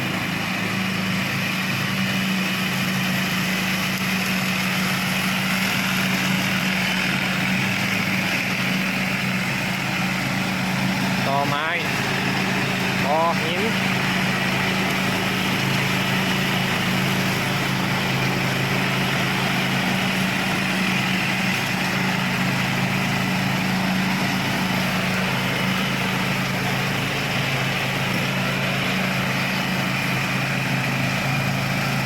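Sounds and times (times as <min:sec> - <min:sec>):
ride-on lawn mower running: 0:00.0 - 0:32.0.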